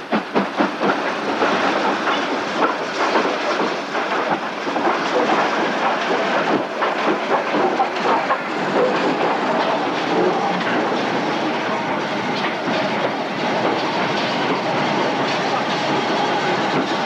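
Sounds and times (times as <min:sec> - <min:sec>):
steam locomotive rushing steam: 0:00.0 - 0:17.0.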